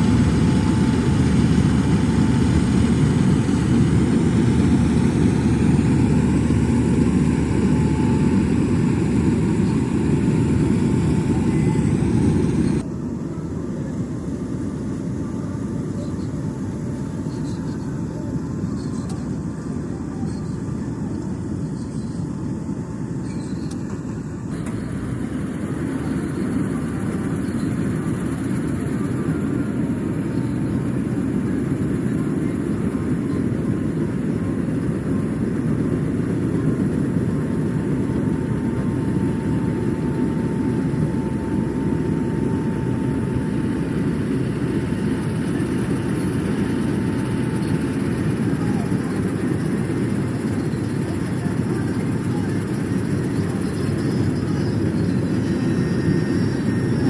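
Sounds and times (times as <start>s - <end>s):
faint machine whine: 0.0s - 57.0s
harvesting machine drone: 0.0s - 57.0s.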